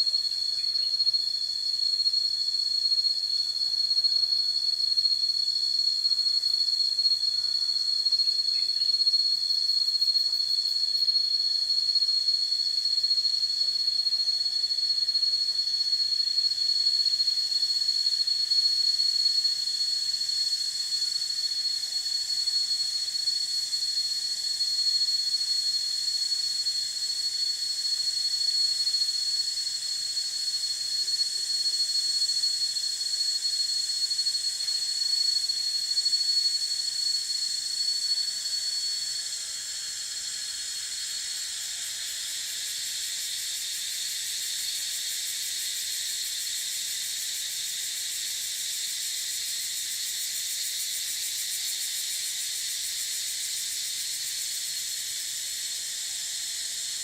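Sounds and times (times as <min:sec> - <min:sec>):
insects chirping shrilly: 0:00.0 - 0:57.0.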